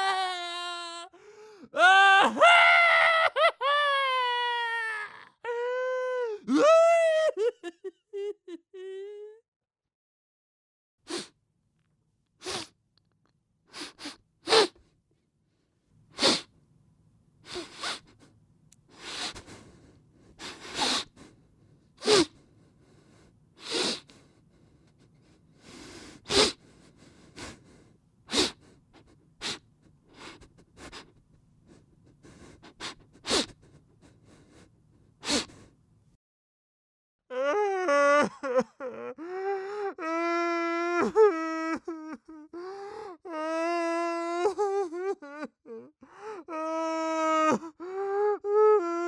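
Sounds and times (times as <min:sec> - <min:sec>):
person sobbing and sniffling: 0:00.0 - 0:09.4, 0:17.4 - 0:35.7, 0:37.3 - 0:49.0.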